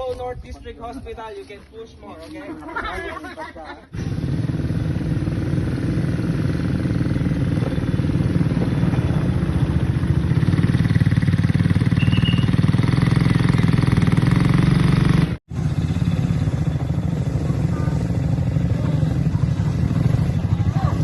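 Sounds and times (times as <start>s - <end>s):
atv engine running: 4.0s - 21.0s.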